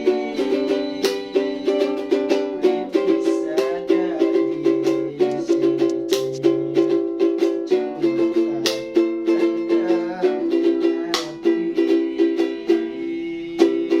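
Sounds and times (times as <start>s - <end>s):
small string instrument strummed: 0.0s - 14.0s.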